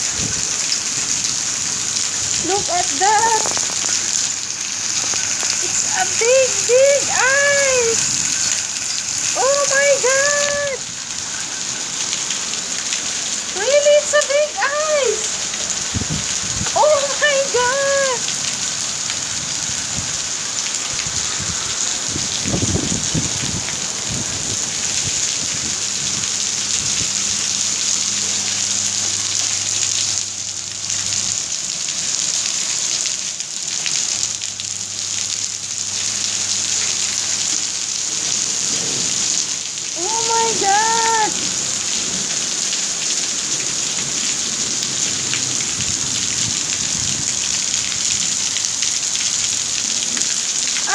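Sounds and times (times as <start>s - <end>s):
heavy rain and hail on tiles: 0.0s - 50.9s.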